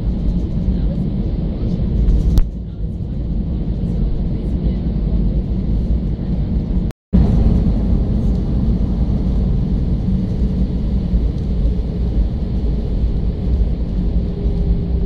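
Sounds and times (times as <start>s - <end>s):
jet engines and wheels rumbling: 0.0s - 15.0s.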